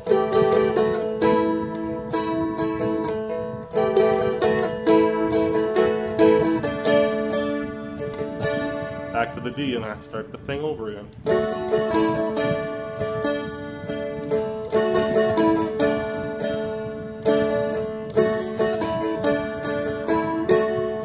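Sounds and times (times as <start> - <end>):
strummed dulcimer with drone: 0.0 - 9.6, 11.2 - 21.0.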